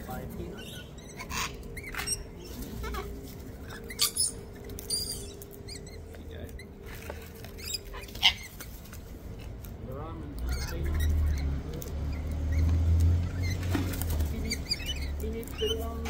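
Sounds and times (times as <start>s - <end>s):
parrots screeching: 0.0s - 9.5s, 10.4s - 16.0s
parrots chattering: 0.0s - 16.0s.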